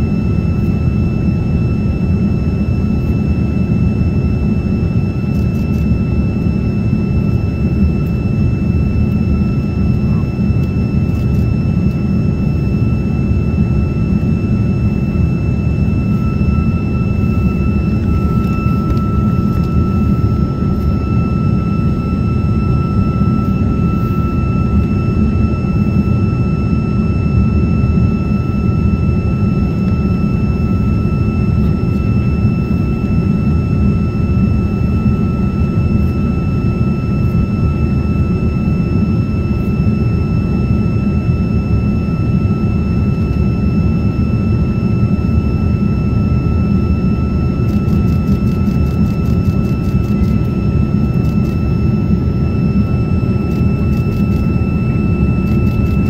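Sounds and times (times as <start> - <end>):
jet cabin engine rumble: 0.0 - 56.0
thin steady whine: 0.0 - 56.0.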